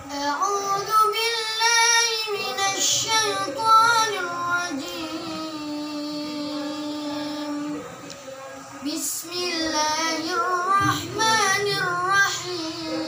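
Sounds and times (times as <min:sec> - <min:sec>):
boy reciting melodically: 0:00.0 - 0:07.9, 0:08.8 - 0:13.0.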